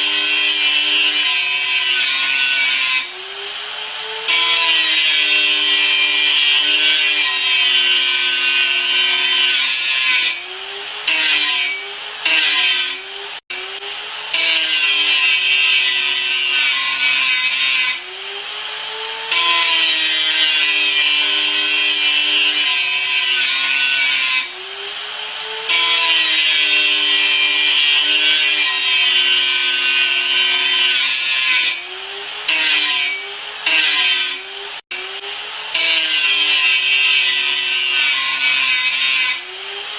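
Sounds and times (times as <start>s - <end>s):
electric grinder grinding: 0.0s - 39.9s.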